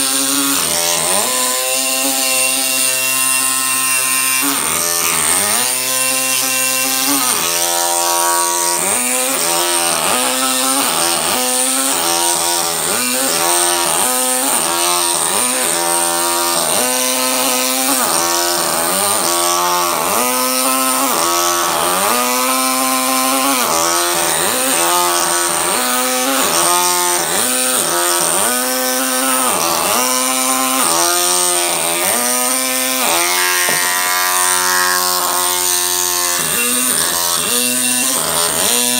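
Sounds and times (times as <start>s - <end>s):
pneumatic hammer chiselling stone: 0.0s - 38.9s.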